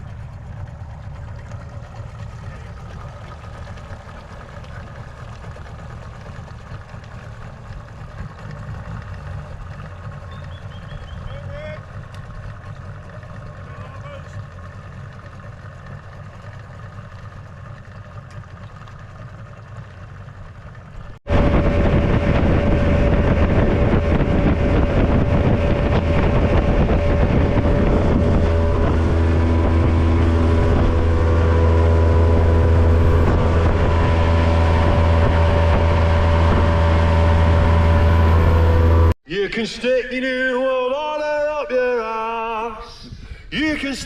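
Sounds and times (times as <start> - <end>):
outboard motor running: 0.0 - 39.5.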